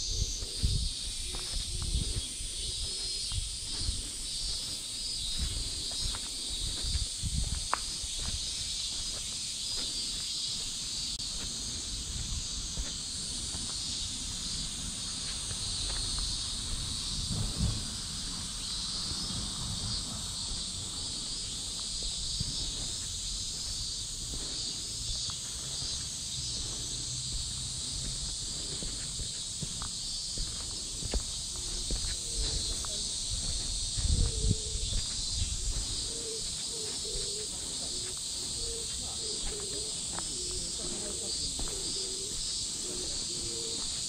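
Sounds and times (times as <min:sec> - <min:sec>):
cicadas singing: 0:00.0 - 0:44.0
faint footsteps: 0:00.2 - 0:44.0.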